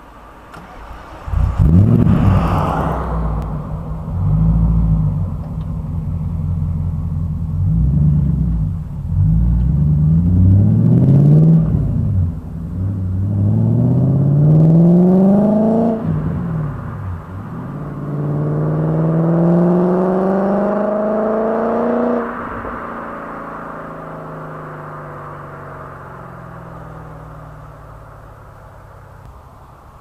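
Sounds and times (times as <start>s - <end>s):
car engine pulling away: 0.0s - 30.0s.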